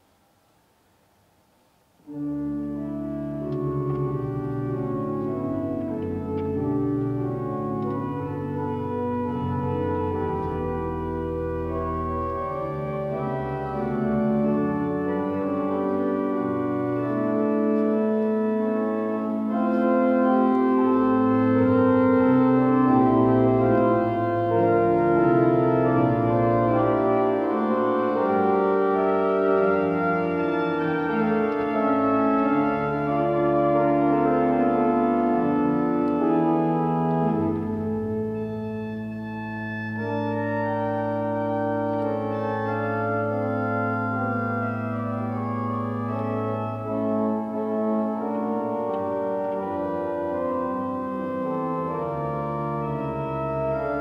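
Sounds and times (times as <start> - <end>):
pipe organ chords: 2.0 - 54.0
deep organ pedal bass: 2.1 - 54.0.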